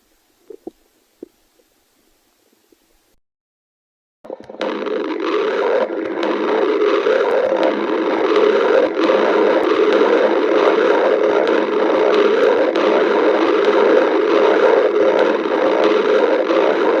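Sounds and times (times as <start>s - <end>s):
stomach growling: 0.0s - 3.1s, 4.3s - 17.0s.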